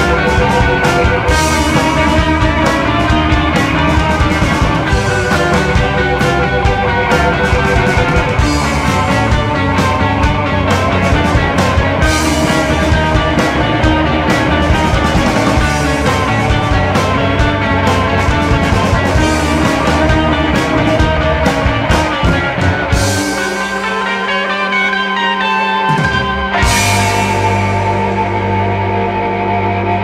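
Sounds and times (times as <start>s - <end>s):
rock music with guitar: 0.0s - 30.0s.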